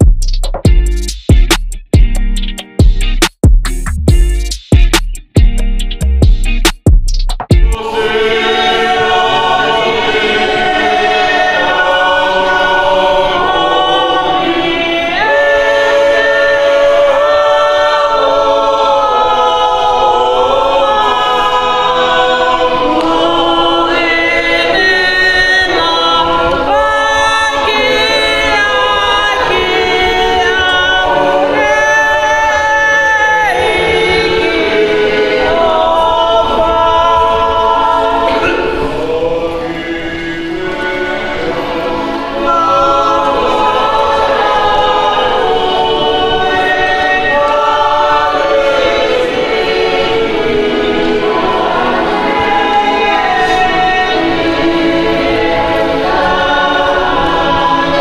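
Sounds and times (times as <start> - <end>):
choir singing a cappella: 7.6 - 58.0.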